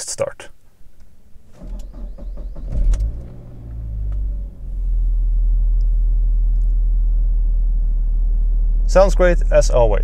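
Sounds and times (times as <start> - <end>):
car engine cranking and idling: 0.7 - 10.0.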